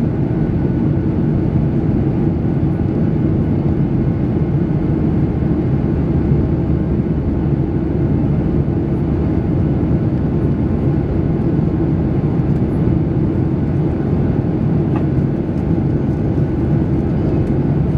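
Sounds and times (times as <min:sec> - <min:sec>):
airplane cabin engine rumble: 0:00.0 - 0:17.9.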